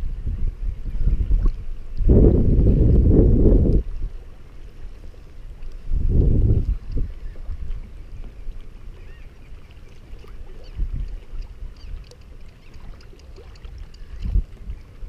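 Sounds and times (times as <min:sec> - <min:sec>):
wind rumbling on microphone: 0:00.0 - 0:15.0
water lapping at kayak hull: 0:00.7 - 0:15.0.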